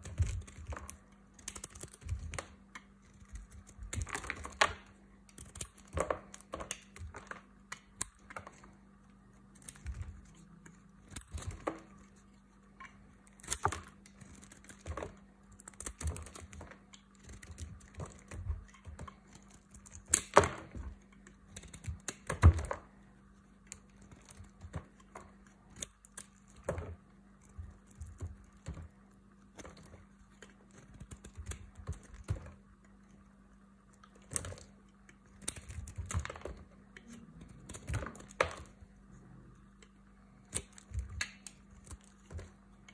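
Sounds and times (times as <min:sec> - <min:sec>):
blade shaving soap: 0:00.0 - 0:39.0.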